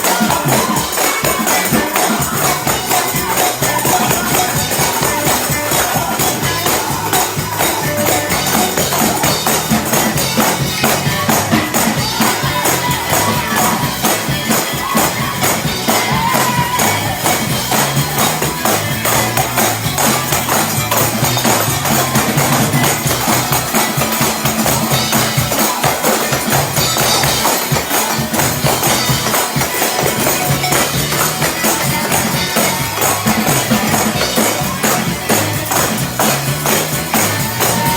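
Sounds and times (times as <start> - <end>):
driving beat: 0.0 - 37.9
faint voices: 0.0 - 37.9
tambourines jingling: 0.0 - 37.9.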